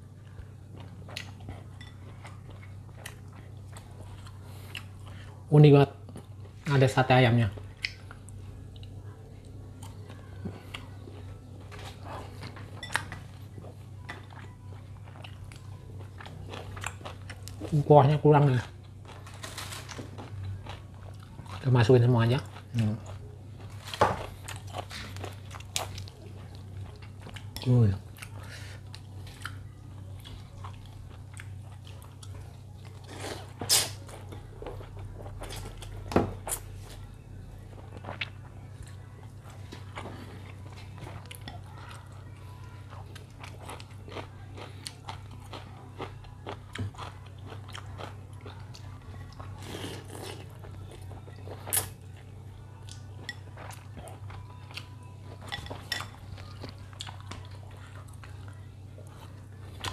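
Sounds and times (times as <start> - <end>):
steady low hum: 0.0 - 59.9
person chewing noodles: 0.2 - 5.4, 7.8 - 17.9, 19.8 - 37.0, 37.6 - 59.9.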